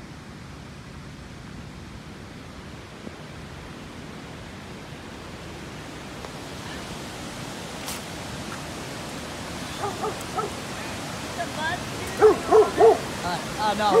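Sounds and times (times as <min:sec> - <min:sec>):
floodwater rushing: 0:02.7 - 0:14.0.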